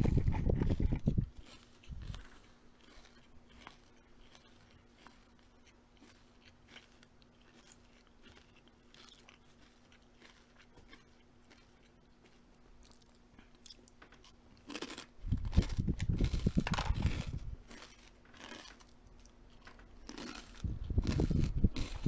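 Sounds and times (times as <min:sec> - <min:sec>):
crunchy chewing of food: 0:00.0 - 0:22.0.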